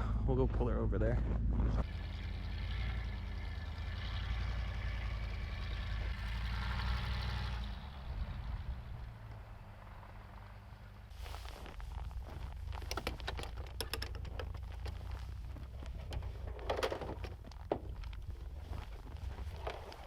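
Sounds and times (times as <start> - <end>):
truck engine humming: 1.8 - 20.0.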